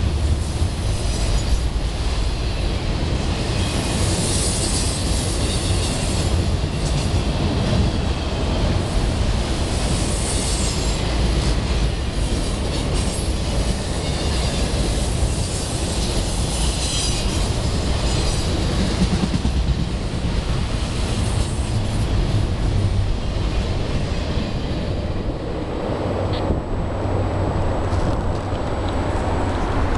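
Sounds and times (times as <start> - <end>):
freight train wheels rumbling on rail: 0.0 - 29.9.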